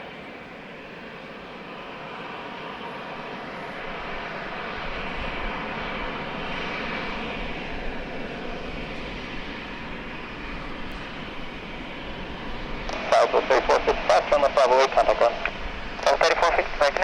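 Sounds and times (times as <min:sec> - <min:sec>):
jet engines rushing during landing: 0:00.0 - 0:17.0.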